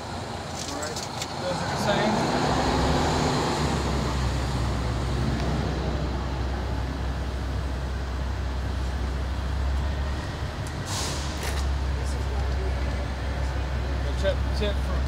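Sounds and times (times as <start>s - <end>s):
vehicle engine idling: 2.8s - 15.0s.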